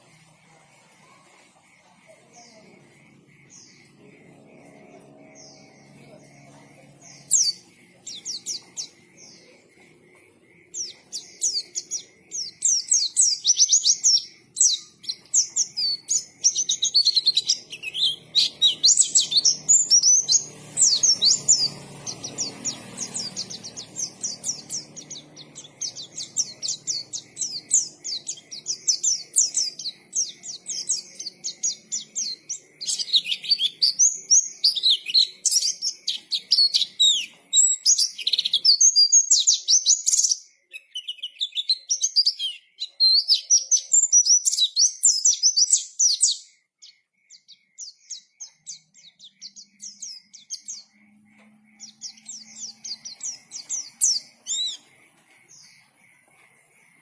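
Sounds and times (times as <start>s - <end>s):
bird twittering song: 0.0s - 57.0s.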